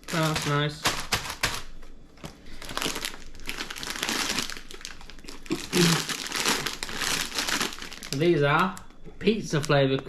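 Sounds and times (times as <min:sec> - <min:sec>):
crisp packet crinkling: 0:00.0 - 0:01.8, 0:02.5 - 0:10.0.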